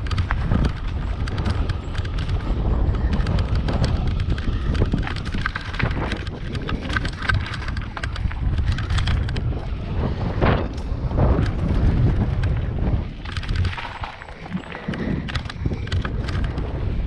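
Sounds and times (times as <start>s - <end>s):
bike tyre rumble on gravel: 0.0s - 17.0s
wind buffeting microphone: 0.0s - 17.0s.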